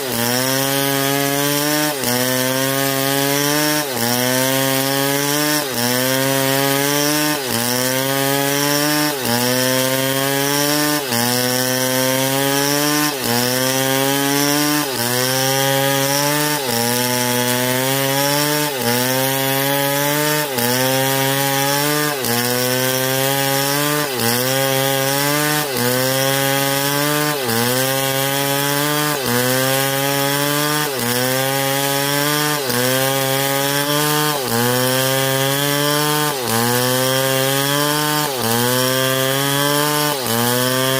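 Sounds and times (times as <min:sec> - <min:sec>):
chainsaw cutting under load: 0:00.0 - 0:40.9.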